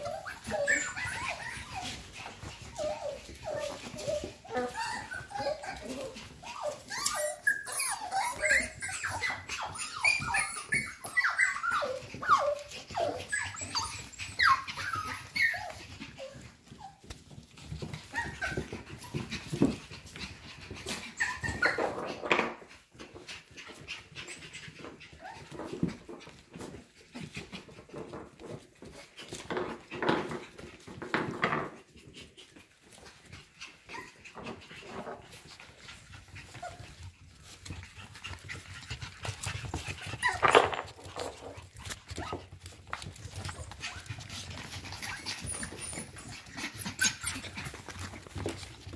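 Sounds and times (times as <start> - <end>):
puppies scuffling: 0.0 - 48.9
puppies yipping and whimpering: 0.0 - 48.9.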